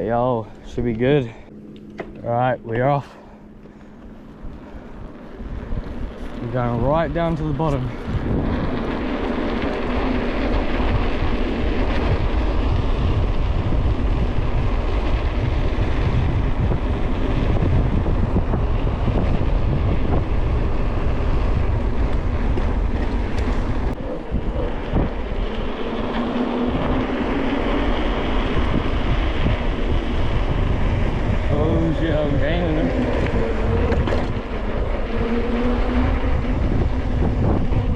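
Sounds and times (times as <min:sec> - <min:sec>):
wind rushing over microphone: 0:02.2 - 0:37.9.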